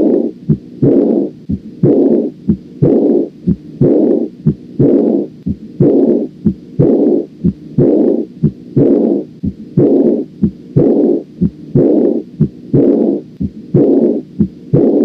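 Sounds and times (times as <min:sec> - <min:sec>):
blowing heart murmur: 0:00.0 - 0:15.0
heartbeat through stethoscope: 0:00.0 - 0:15.0.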